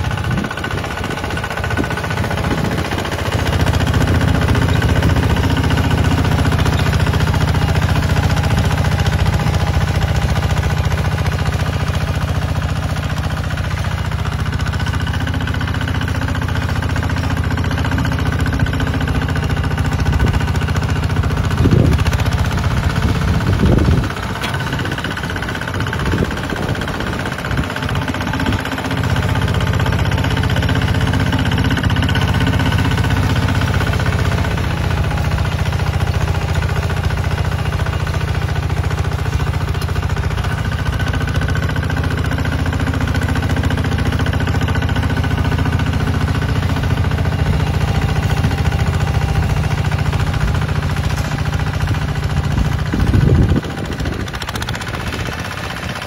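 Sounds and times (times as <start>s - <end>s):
diesel tractor engine under load: 0.0s - 56.0s.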